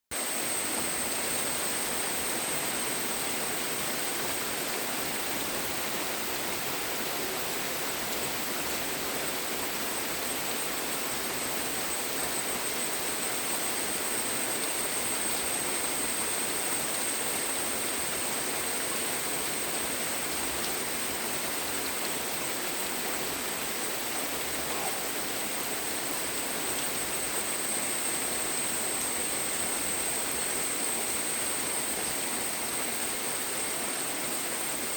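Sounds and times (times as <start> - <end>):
steady rainfall: 0.1 - 34.9.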